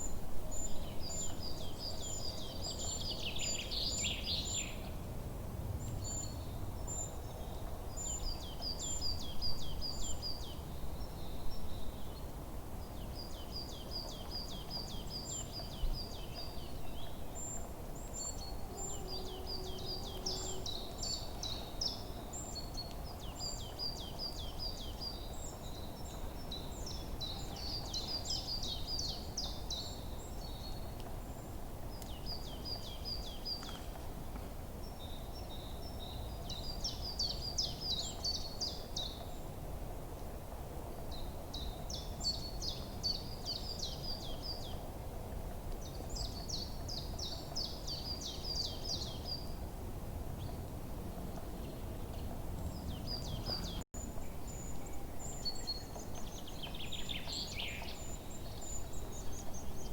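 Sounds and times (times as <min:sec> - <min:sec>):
songbird singing: 0:00.0 - 0:05.0, 0:05.8 - 0:34.1, 0:34.8 - 0:39.6, 0:41.0 - 0:44.9, 0:45.7 - 0:49.7, 0:51.3 - 0:59.9
low outdoor background noise: 0:00.0 - 0:59.9.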